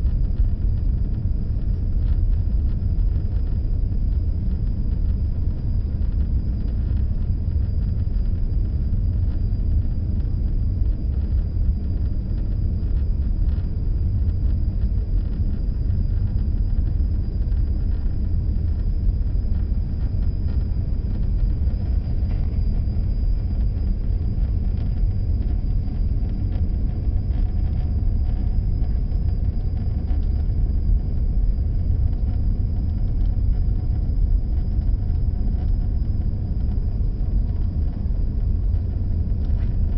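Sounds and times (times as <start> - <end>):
car driving low rumble: 0.0 - 39.9.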